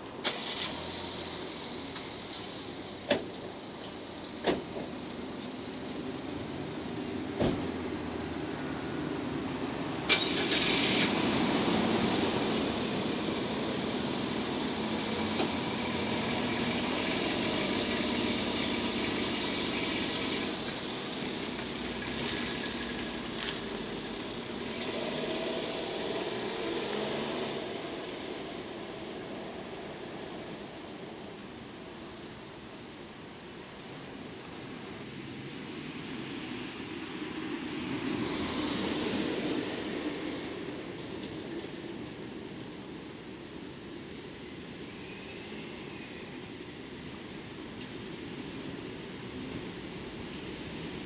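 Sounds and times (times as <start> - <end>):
vehicle rumble: 0.0 - 51.0.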